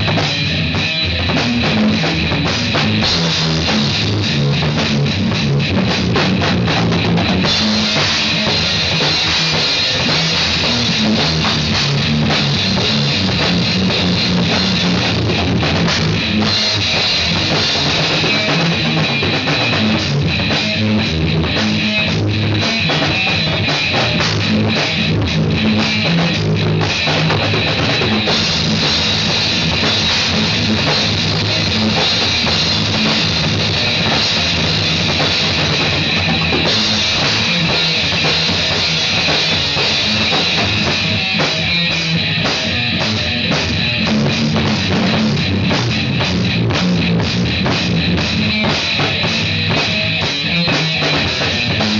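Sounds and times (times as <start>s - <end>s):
loud rock music: 0.0s - 51.9s
steady drumming: 0.0s - 51.9s.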